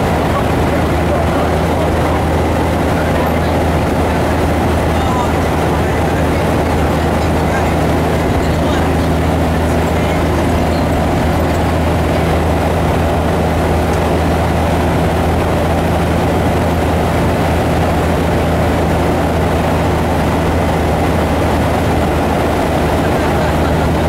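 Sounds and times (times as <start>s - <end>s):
diesel truck engine droning: 0.0s - 24.0s
tyres humming on road: 0.0s - 24.0s.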